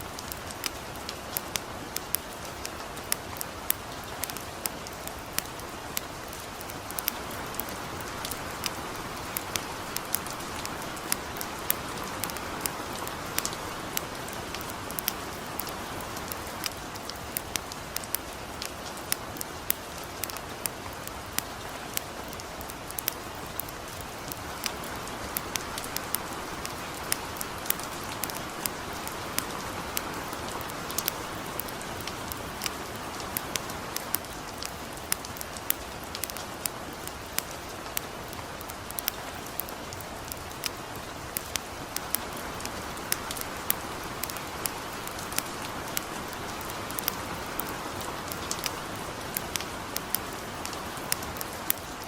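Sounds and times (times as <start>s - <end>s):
campfire crackling and popping: 0.0s - 51.9s
light rain hissing: 0.0s - 52.0s.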